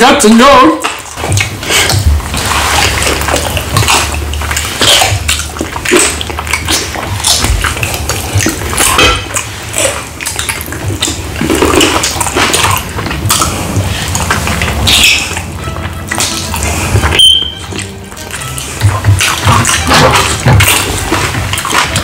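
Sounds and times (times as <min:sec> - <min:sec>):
wet chewing and lip-smacking: 0:00.8 - 0:22.0.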